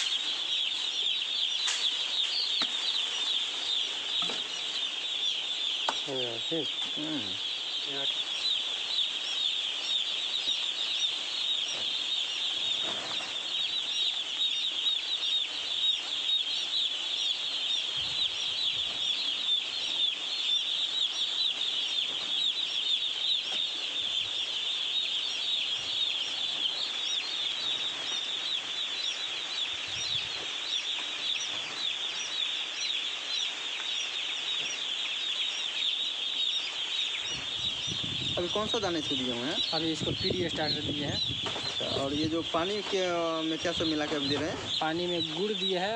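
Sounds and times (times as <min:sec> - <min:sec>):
chicks peeping: 0:00.0 - 0:45.9.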